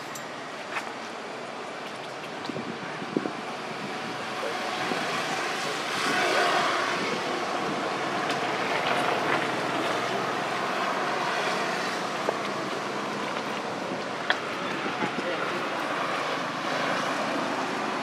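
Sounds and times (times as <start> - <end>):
road traffic rushing: 0.0 - 18.0.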